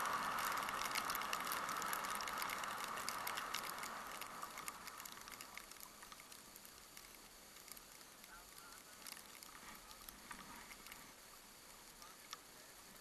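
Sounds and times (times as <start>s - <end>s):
skis sliding on snow: 0.0s - 13.0s.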